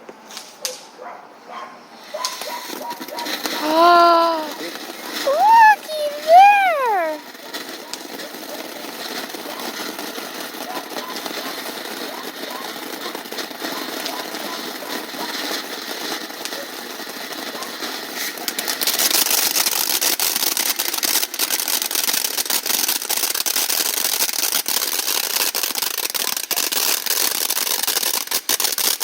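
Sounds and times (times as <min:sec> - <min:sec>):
firework fountain hissing crackle: 0:00.2 - 0:01.0, 0:01.9 - 0:29.0.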